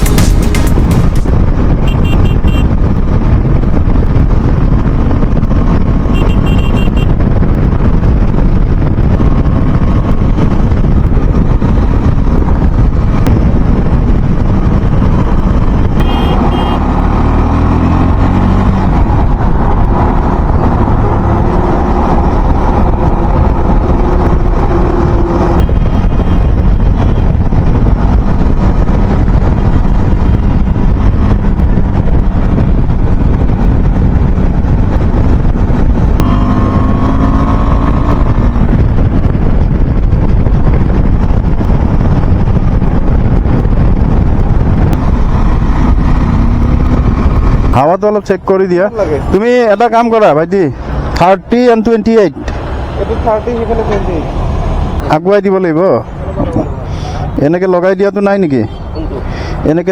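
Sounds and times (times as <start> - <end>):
loud wind rush: 0.0 - 59.9
motorbike engine and road noise: 0.0 - 59.9
passing traffic: 0.0 - 59.9.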